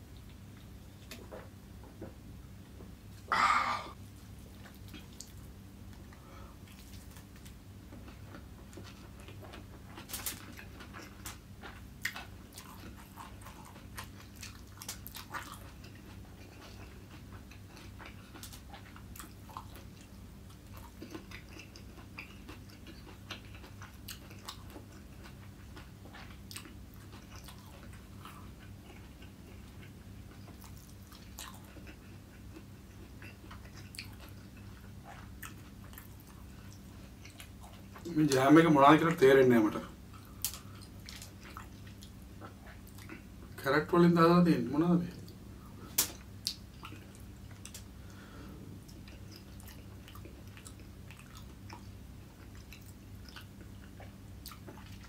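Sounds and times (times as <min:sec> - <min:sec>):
steady low hum: 0:00.0 - 0:55.0
chewing with wet mouth smacks: 0:04.5 - 0:38.4, 0:40.1 - 0:43.5, 0:45.1 - 0:55.0.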